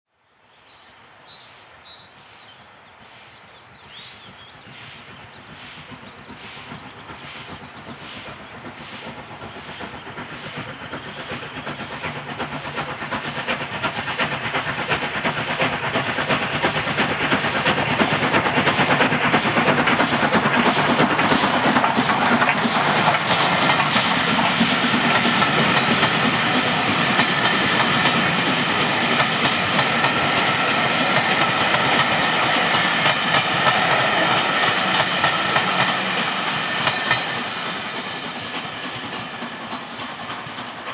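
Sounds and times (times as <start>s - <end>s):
steam locomotive exhaust beats: 3.7s - 40.9s.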